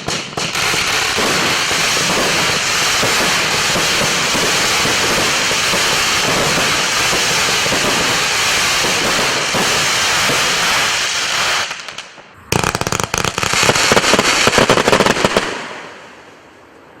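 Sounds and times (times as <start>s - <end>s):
fireworks rapid sharp bangs: 0.0s - 16.0s
fireworks rushing noise: 0.0s - 16.8s.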